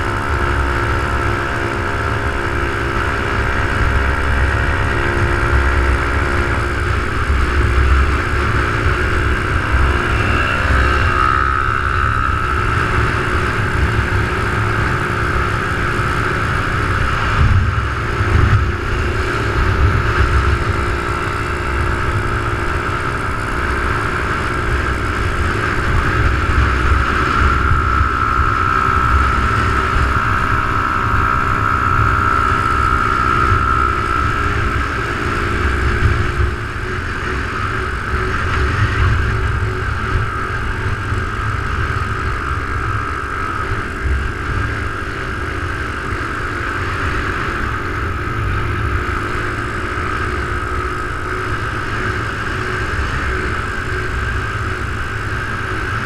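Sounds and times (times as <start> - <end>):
high whine: 0.0 - 56.0
small motorbike engine running: 0.0 - 56.0
wind rumble on microphone: 0.0 - 56.0.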